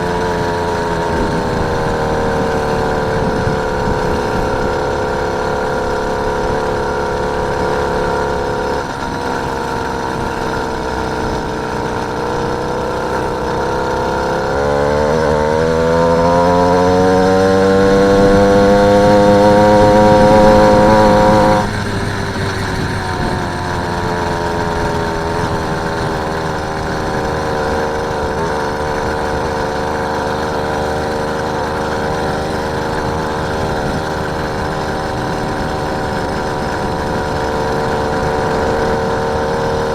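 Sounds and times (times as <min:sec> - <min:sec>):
motorised bike engine revving: 0:00.0 - 0:39.9.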